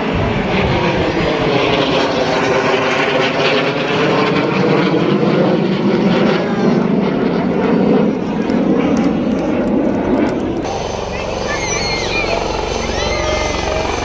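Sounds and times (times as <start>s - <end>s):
aircraft engine flying overhead: 0.0s - 14.0s.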